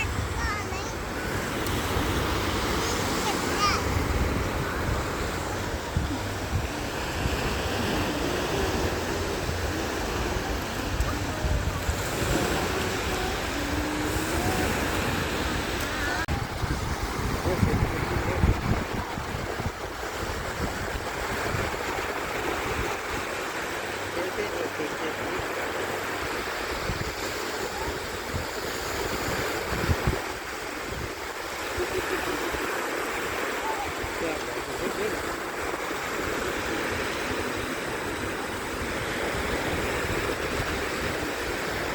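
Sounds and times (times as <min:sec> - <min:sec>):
wind buffeting microphone: 0:00.0 - 0:23.4, 0:26.2 - 0:32.4, 0:33.0 - 0:41.9
sea waves breaking on beach: 0:00.0 - 0:41.9.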